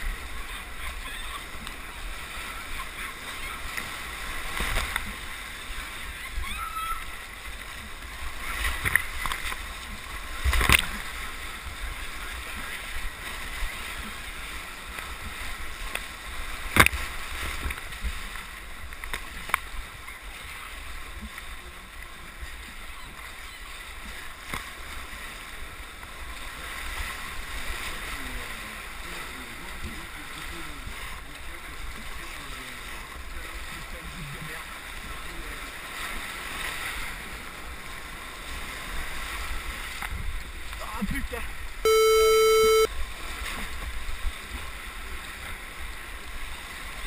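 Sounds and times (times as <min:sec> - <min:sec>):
rushing whitewater: 0:00.0 - 0:47.0
water splashes: 0:00.0 - 0:47.0.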